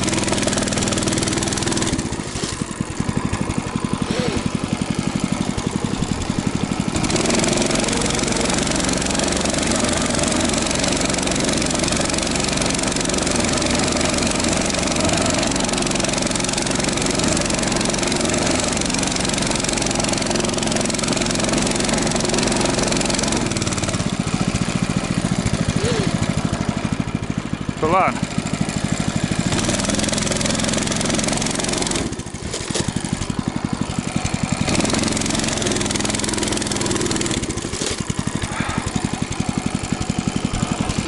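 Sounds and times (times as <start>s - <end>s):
small engine idling and revving: 0.0s - 41.0s.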